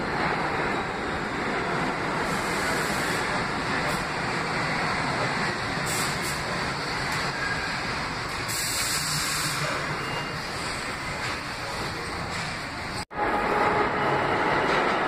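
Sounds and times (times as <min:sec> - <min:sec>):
subway train wheels on rail: 0:00.0 - 0:15.0.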